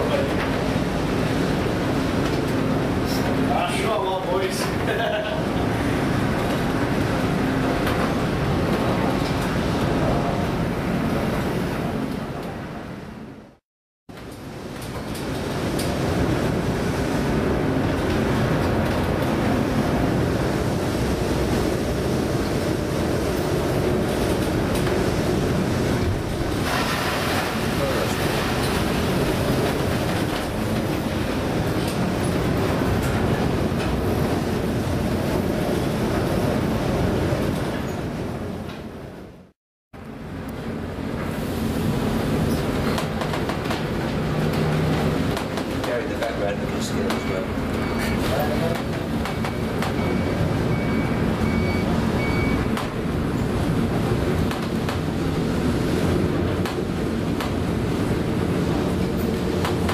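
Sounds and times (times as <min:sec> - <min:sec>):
heavy seas around a ship: 0:00.0 - 0:59.9
wind: 0:00.0 - 0:59.9.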